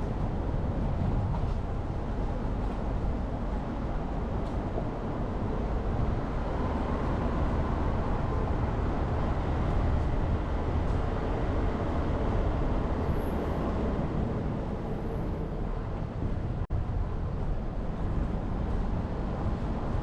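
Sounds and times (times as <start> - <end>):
car engine and tyre rumble: 0.0 - 20.0
wind noise: 0.0 - 20.0.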